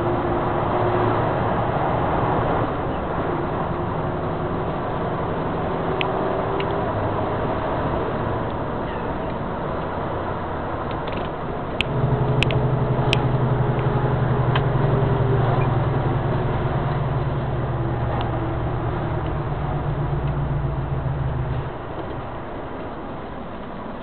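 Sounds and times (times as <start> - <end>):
truck engine droning: 0.0 - 24.0.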